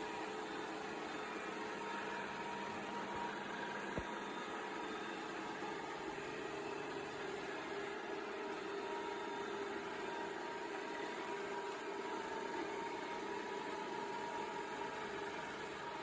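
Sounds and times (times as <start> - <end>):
robot vacuum humming and whining: 0.0 - 16.0.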